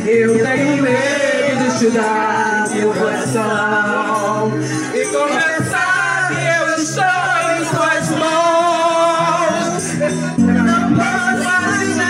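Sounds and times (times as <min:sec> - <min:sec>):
karaoke backing track: 0:00.0 - 0:12.0
people singing into microphones: 0:00.0 - 0:12.0.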